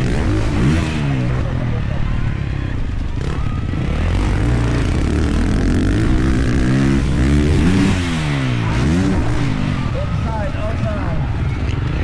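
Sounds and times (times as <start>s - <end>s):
dirt bike engine revving: 0.0s - 1.8s, 2.5s - 11.3s.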